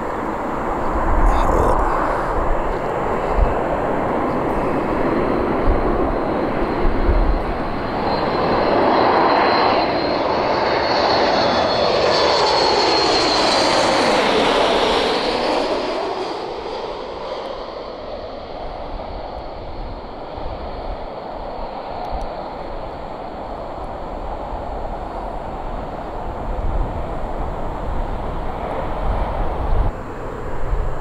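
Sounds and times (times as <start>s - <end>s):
jet airliner passing overhead: 0.0s - 31.0s.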